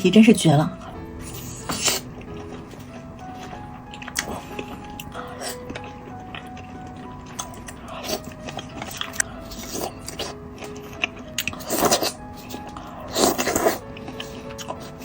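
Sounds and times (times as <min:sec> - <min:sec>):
background music with held notes: 0:00.0 - 0:15.0
crisp food being chewed: 0:00.8 - 0:15.0.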